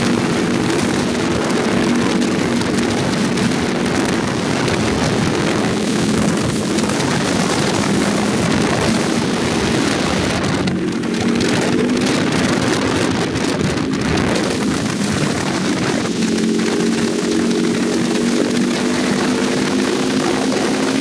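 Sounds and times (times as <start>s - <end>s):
motorcycle engine cruising: 0.0s - 21.0s
wind rush over microphone: 0.0s - 21.0s.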